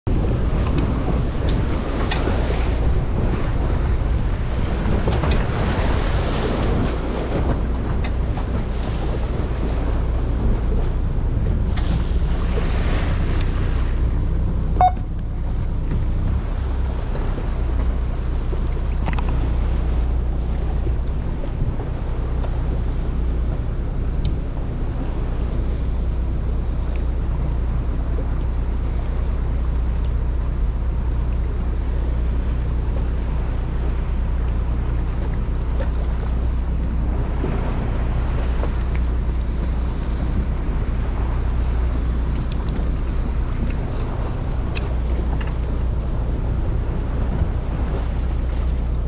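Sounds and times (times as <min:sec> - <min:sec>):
boat engine droning: 0:00.0 - 0:49.0
water washing against hull: 0:00.0 - 0:49.0
wind buffeting microphone: 0:00.1 - 0:49.0.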